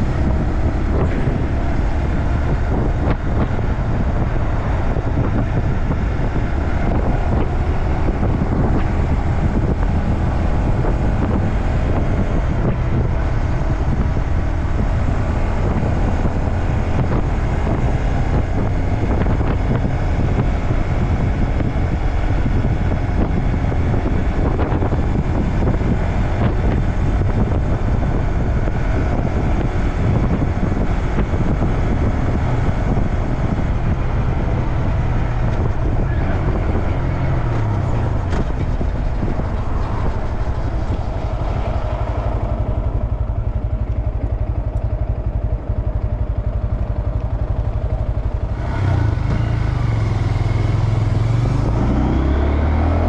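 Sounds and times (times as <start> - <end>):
motorcycle engine: 0.0 - 53.0
tyres on road: 0.0 - 53.0
wind buffeting microphone: 0.0 - 53.0.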